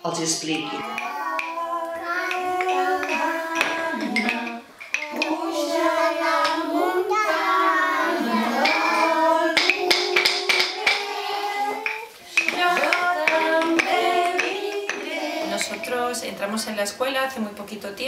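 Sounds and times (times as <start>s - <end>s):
wooden rhythm sticks clicking: 0.0s - 16.8s
children and adult singing: 0.0s - 17.0s.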